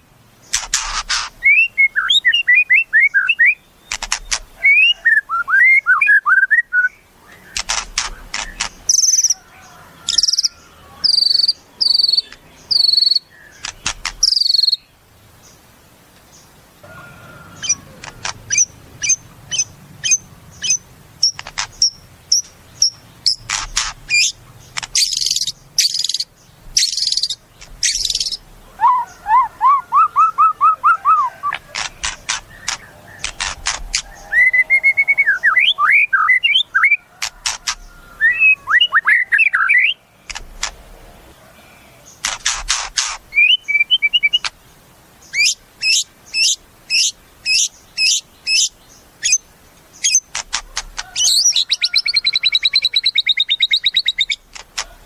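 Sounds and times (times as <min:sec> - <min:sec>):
songbird singing varied song: 0:00.2 - 0:55.0.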